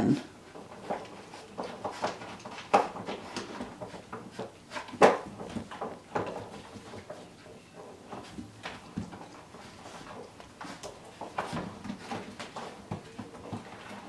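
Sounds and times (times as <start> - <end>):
puppies scrabbling: 0.4 - 14.0.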